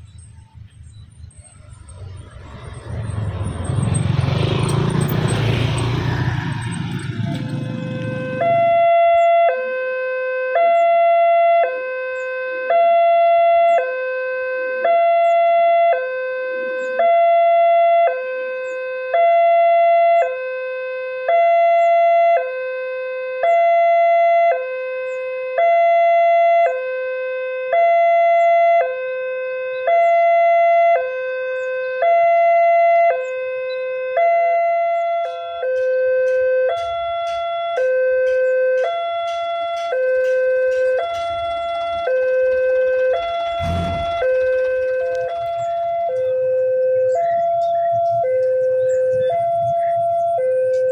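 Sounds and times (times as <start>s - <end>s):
two-tone level crossing alarm: 1.8s - 50.9s.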